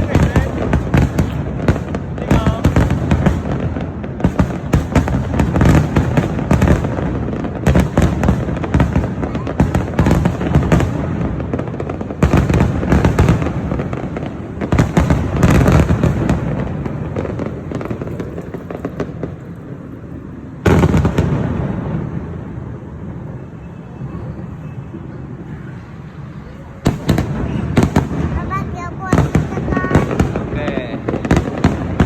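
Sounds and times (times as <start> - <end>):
rumbling echo: 0.0 - 23.3, 26.8 - 32.0
fireworks bursting with crackling: 0.0 - 25.6, 26.2 - 32.0.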